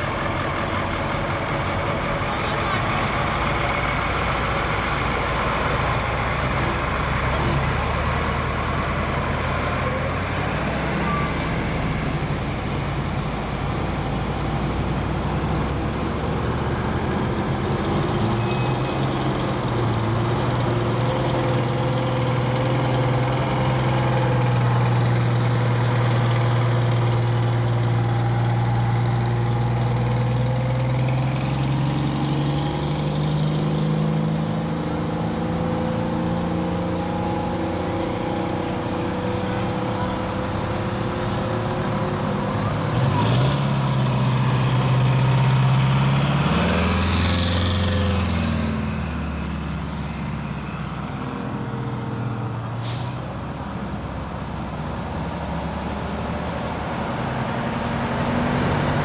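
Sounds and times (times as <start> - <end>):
fire truck engines passing: 0.0 - 59.0.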